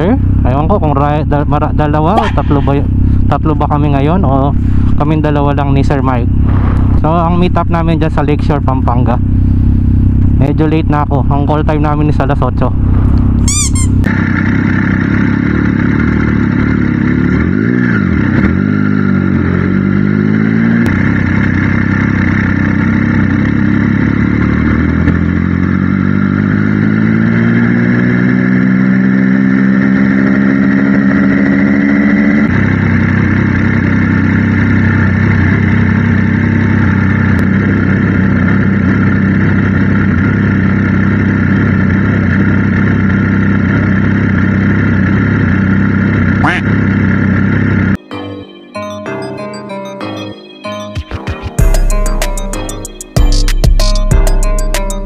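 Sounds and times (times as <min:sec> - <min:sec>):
motorcycle engine accelerating: 0:00.0 - 0:48.0, 0:50.8 - 0:55.0.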